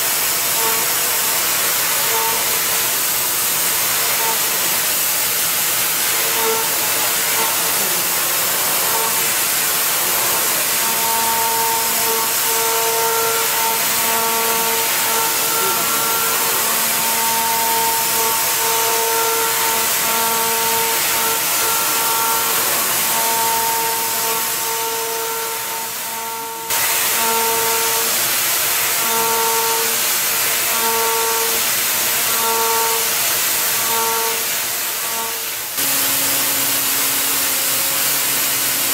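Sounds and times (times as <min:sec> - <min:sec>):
milling cutter whine: 0:00.0 - 0:38.9.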